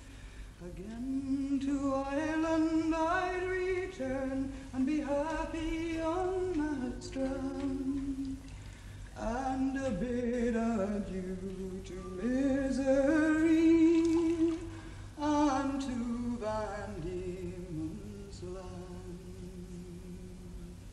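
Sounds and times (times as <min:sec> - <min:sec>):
faint low hum: 0:00.0 - 0:20.9
woman singing unaccompanied: 0:00.6 - 0:08.6, 0:09.2 - 0:20.9.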